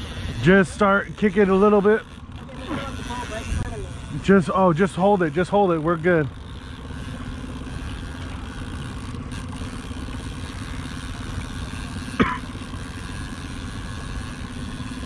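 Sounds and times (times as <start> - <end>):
outboard motor droning: 0.0 - 15.0
water noise: 0.0 - 15.0
wind: 0.0 - 15.0.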